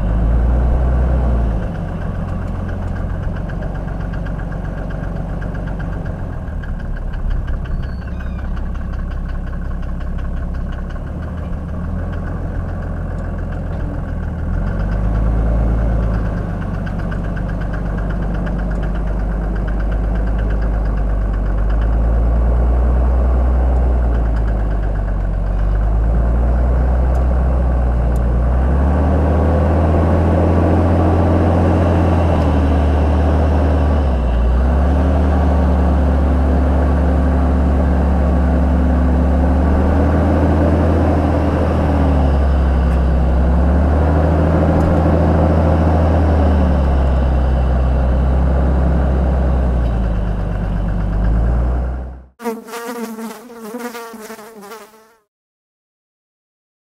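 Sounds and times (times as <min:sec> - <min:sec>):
diesel engine revving: 0:00.0 - 0:52.4.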